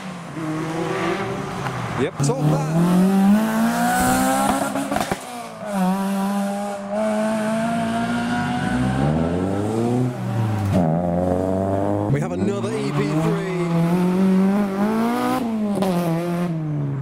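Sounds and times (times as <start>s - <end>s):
car engine revving high: 0.0s - 17.0s.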